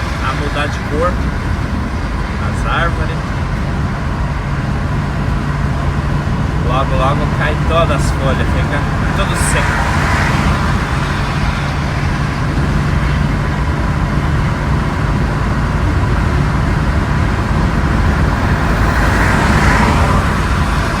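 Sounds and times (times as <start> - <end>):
diesel engine running: 0.0 - 21.0
road noise: 0.0 - 21.0.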